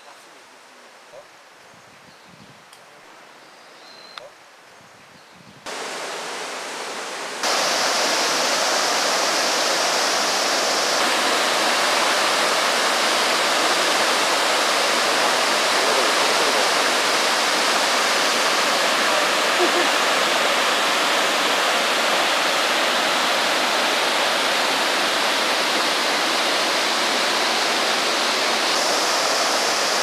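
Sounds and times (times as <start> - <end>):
small waterfall rushing over rock: 5.7 - 30.0.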